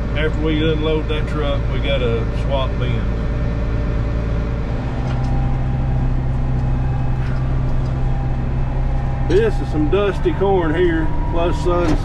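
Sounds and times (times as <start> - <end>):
diesel engine humming under load: 0.0 - 12.0.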